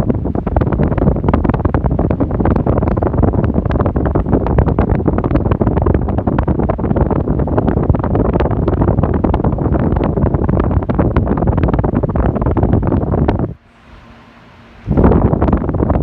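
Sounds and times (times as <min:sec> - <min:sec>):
electric fan wind buffeting: 0:00.0 - 0:16.0.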